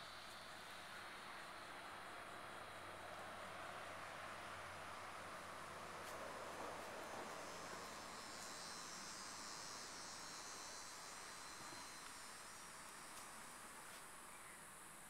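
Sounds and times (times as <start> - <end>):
insect chorus buzzing: 0.0 - 15.0
low steady hiss: 0.0 - 15.0.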